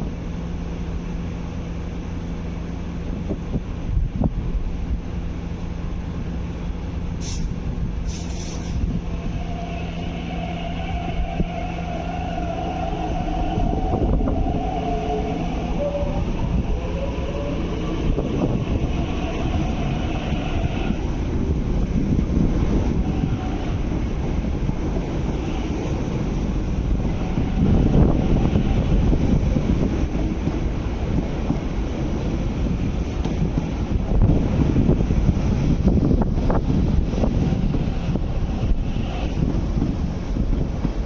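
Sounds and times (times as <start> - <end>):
wheels rumbling on rails: 0.0 - 41.0.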